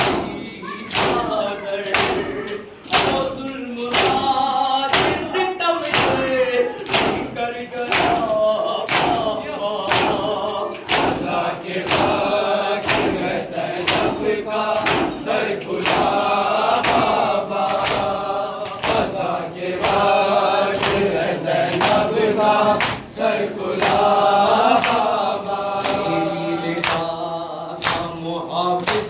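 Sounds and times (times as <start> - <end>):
lead reciter chanting: 0.0 - 29.0
men chanting together: 0.0 - 29.0.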